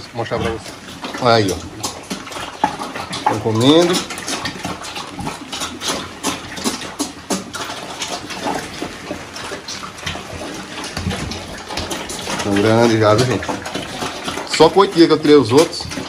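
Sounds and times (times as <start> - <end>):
pigs slurping from a trough: 0.0 - 16.0.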